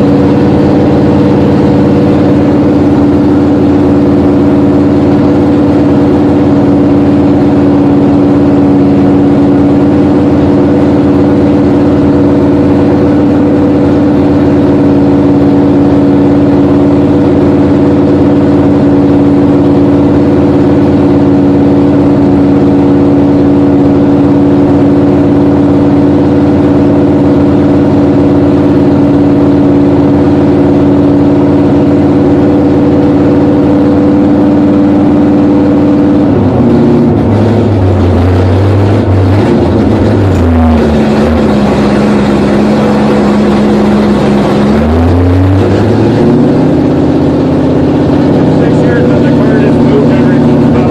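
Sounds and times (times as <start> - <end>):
car engine running steadily: 0.0 - 50.9.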